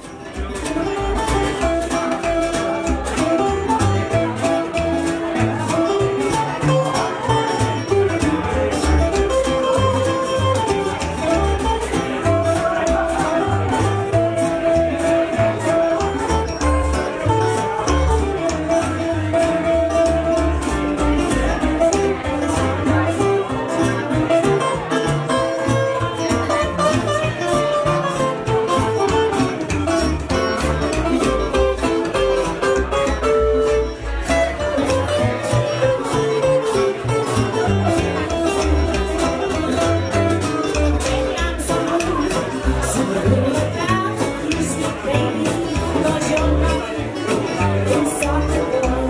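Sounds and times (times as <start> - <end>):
guitars strummed and picked: 0.0 - 49.0
upright bass: 0.0 - 49.0.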